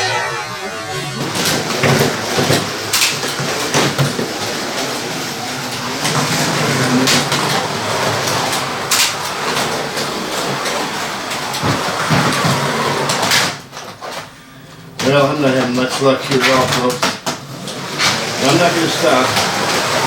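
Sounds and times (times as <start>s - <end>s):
slot cars whirring: 0.0s - 20.0s.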